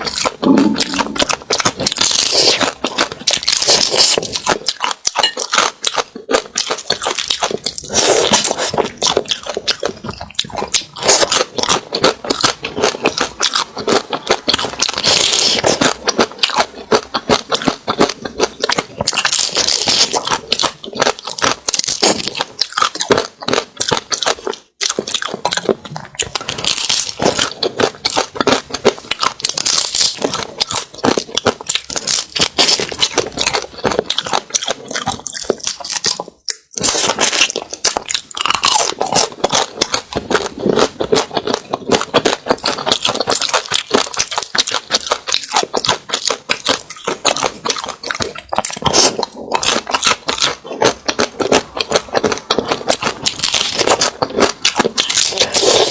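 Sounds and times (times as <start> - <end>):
crunching and chewing crab: 0.0 - 55.9.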